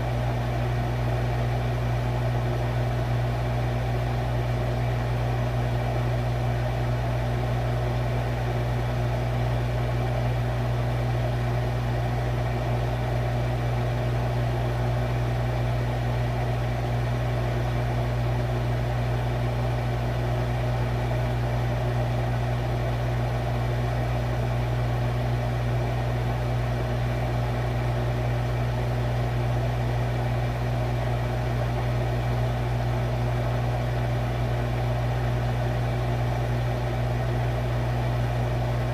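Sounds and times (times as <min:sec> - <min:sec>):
refrigerator compressor humming: 0:00.0 - 0:38.9.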